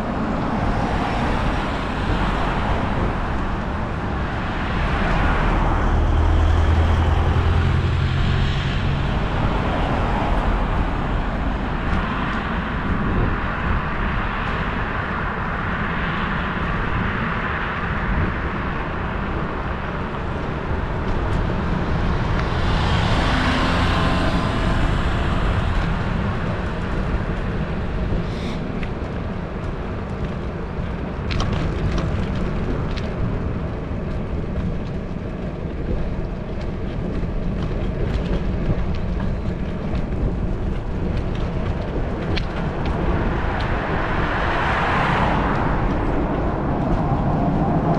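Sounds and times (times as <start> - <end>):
road traffic passing: 0.0 - 47.9
vehicle engine hum: 0.0 - 47.9.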